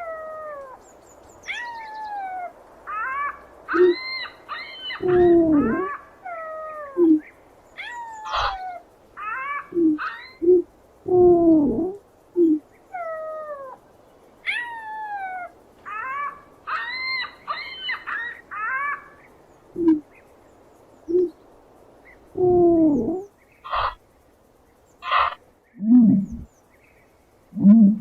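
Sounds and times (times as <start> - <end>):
ostriches calling: 1.4 - 13.8, 14.4 - 20.3, 21.1 - 24.1, 25.0 - 26.5.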